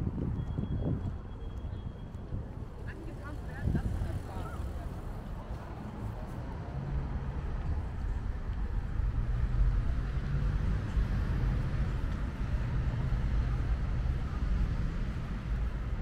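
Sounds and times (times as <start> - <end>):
traffic rumble: 0.0 - 16.0
faint voices of passers-by: 0.5 - 16.0.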